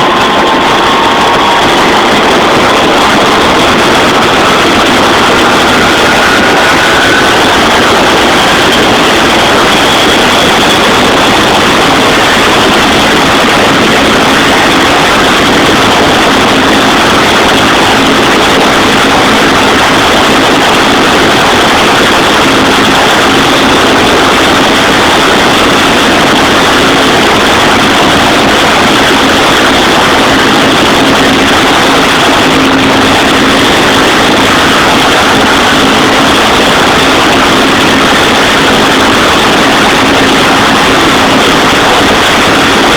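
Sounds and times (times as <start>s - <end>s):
helicopter engine with high whine: 0.0s - 42.9s.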